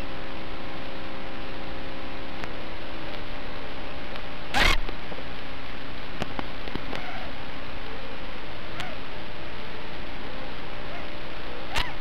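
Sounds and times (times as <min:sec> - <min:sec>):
faint hum tones: 0:00.0 - 0:12.0
static hiss: 0:00.0 - 0:12.0.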